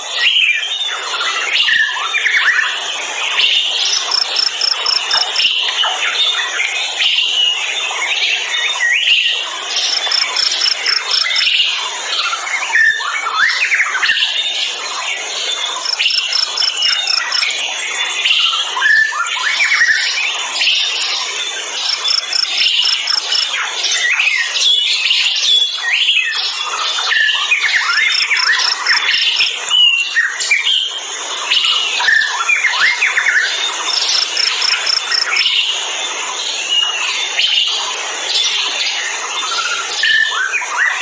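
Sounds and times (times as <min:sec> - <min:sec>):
forest birds chirping: 0:00.2 - 0:41.0.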